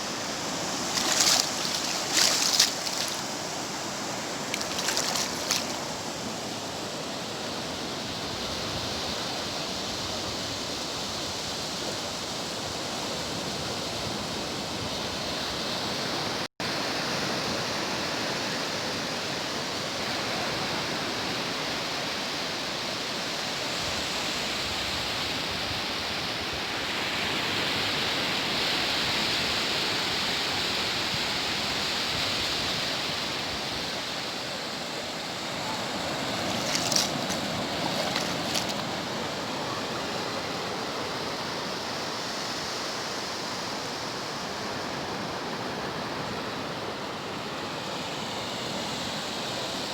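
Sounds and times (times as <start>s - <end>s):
waves breaking on a beach: 0.0s - 49.9s.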